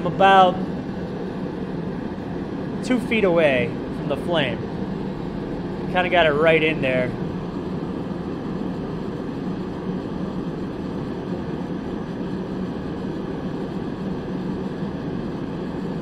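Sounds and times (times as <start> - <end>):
heater fan and burner rushing: 0.0 - 16.0.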